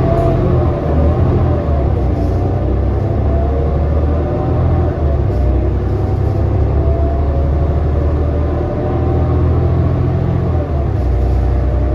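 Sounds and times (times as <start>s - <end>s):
bus engine rumble: 0.0s - 11.9s.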